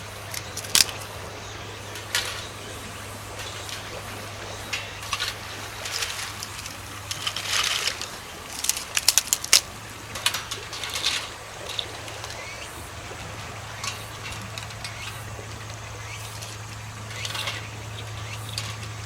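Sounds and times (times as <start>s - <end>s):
rustling: 0.0s - 19.0s
steady low hum: 0.0s - 19.0s.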